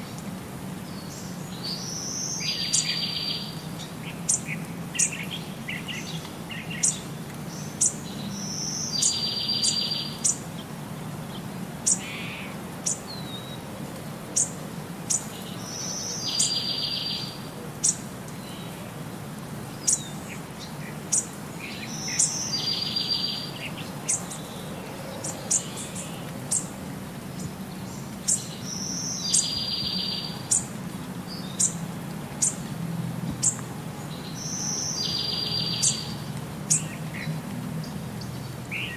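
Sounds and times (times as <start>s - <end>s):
birds chirping: 0.8s - 13.7s, 14.3s - 19.0s, 19.6s - 32.7s, 33.3s - 38.9s.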